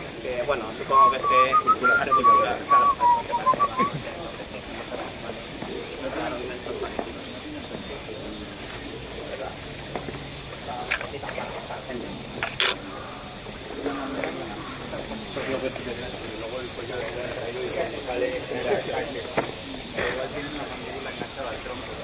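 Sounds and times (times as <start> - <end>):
cicadas singing: 0.0 - 22.0
faint voices: 0.0 - 22.0.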